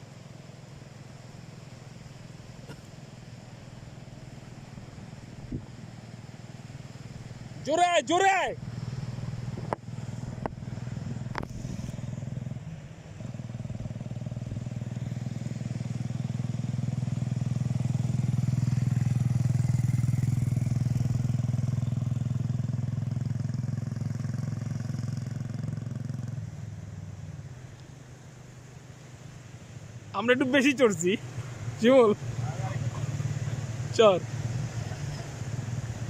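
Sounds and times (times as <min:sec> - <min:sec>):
quad bike engine running: 0:00.0 - 0:28.4, 0:29.4 - 0:36.0.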